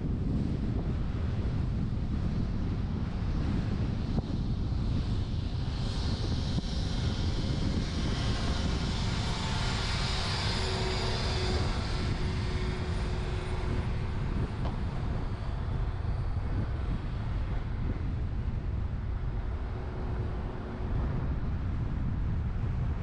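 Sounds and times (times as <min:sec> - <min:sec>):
truck road noise rumble: 0:00.0 - 0:23.0
wind buffeting camera: 0:00.0 - 0:23.0.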